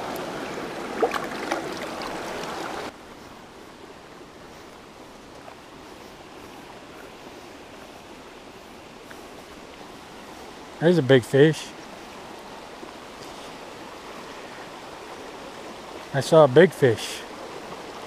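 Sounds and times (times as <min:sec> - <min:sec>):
creek running over rocks: 0:00.0 - 0:18.0.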